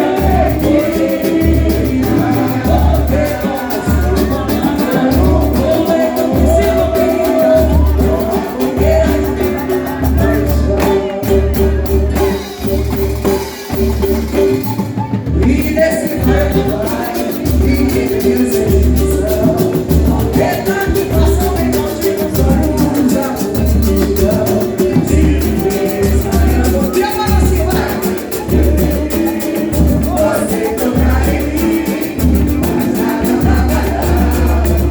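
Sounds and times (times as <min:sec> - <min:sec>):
lead singer: 0:00.0 - 0:34.9
low drum beat: 0:00.0 - 0:34.9
samba band playing: 0:00.0 - 0:34.9.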